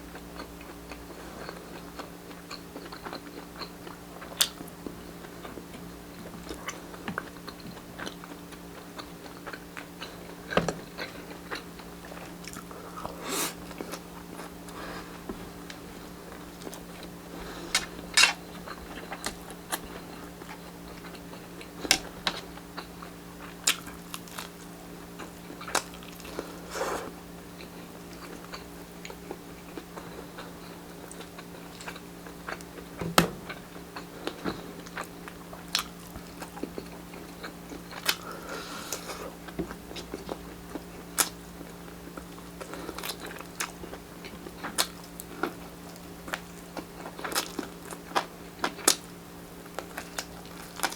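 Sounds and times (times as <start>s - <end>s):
chewing and biting food: 0.0s - 50.9s.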